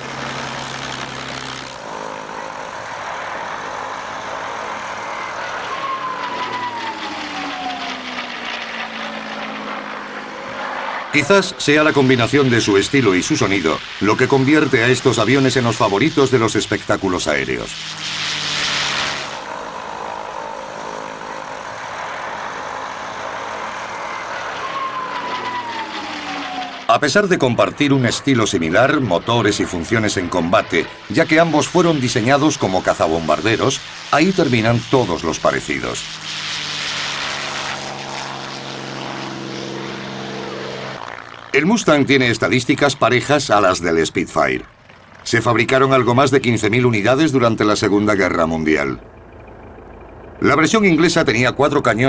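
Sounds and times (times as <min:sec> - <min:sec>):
plane flying past overhead: 0:00.0 - 0:52.0
propeller plane engine: 0:00.0 - 0:52.0.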